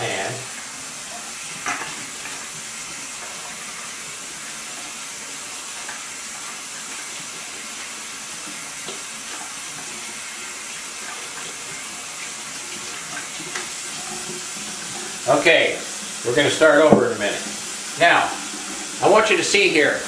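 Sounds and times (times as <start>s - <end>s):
faucet running into sink: 0.0s - 20.0s.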